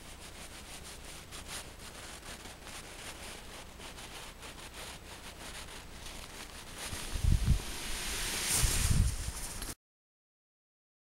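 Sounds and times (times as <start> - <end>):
saw scraping through snow: 0.0 - 9.8.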